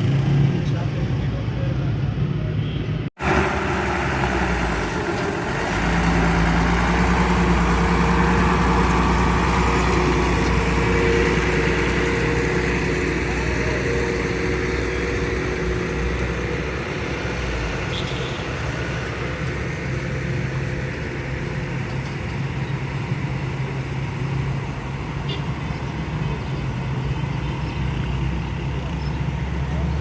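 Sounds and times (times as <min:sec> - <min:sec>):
truck engine humming: 0:03.2 - 0:30.0.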